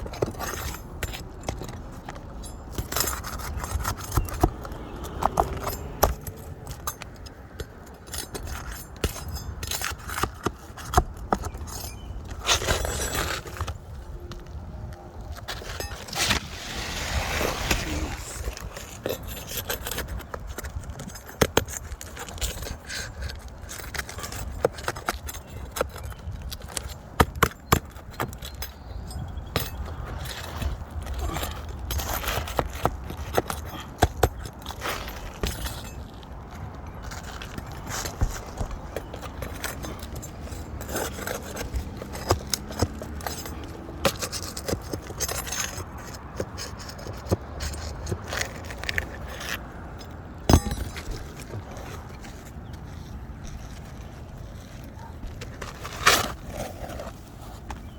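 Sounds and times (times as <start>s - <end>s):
scraping and rubbing on shingles: 0.0s - 14.6s, 15.2s - 57.9s.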